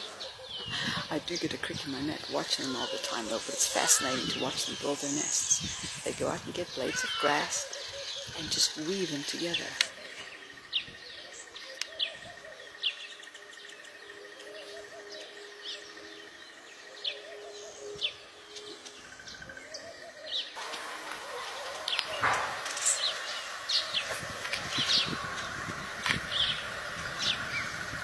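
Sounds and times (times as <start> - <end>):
outdoor background noise: 0.0 - 28.0
small birds chirping: 0.0 - 28.0.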